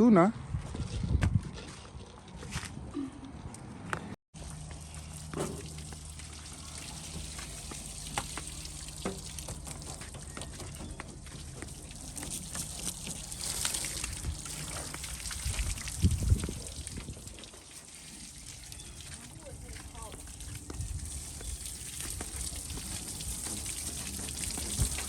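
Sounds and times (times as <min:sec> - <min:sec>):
water pouring and trickling: 0:04.4 - 0:25.0
water splashes and drips: 0:04.4 - 0:25.0.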